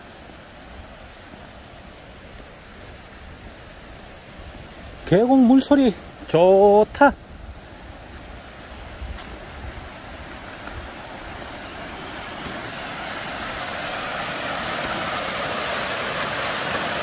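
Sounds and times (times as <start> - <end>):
stream splashing over stones: 0.0 - 17.0.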